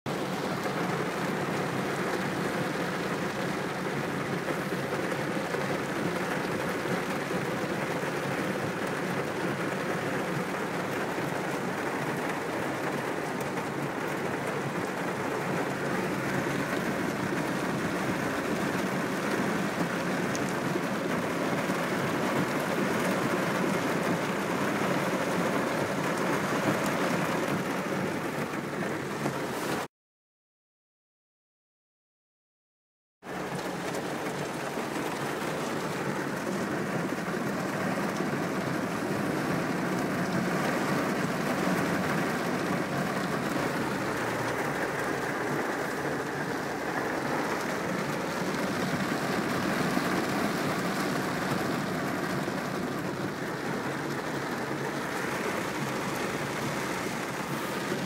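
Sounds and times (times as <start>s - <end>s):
heavy rain pouring: 0.1s - 29.9s, 33.2s - 58.0s.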